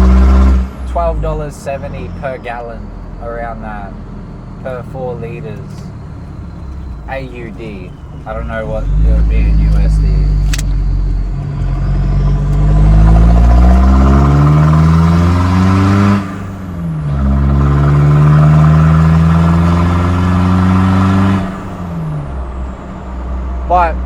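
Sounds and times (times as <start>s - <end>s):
engine accelerating: 0.0s - 24.0s.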